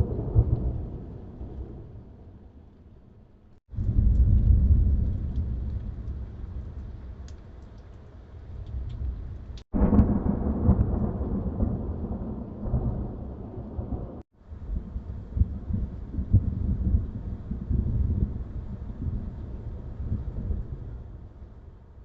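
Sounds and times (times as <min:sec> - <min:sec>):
thunder rolling: 0:00.0 - 0:02.2, 0:03.7 - 0:07.1, 0:08.6 - 0:21.4
rain falling: 0:00.0 - 0:03.0, 0:03.6 - 0:22.0.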